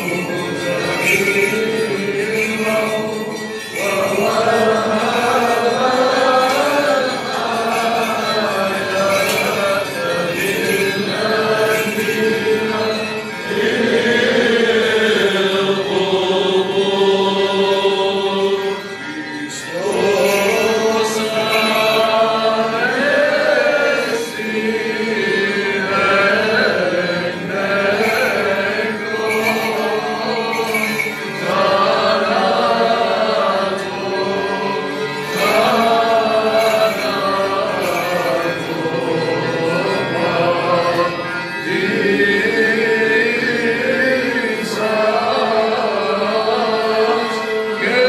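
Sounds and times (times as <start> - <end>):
men's choir chanting a hymn: 0.0 - 48.0.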